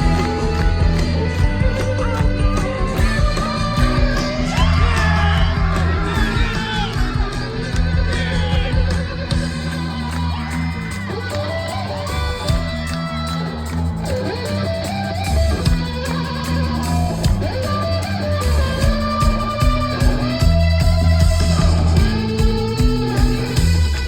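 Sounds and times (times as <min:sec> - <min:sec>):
bass guitar: 0:00.0 - 0:24.0
electric guitars: 0:00.0 - 0:24.0
rock band playing live: 0:00.0 - 0:24.0.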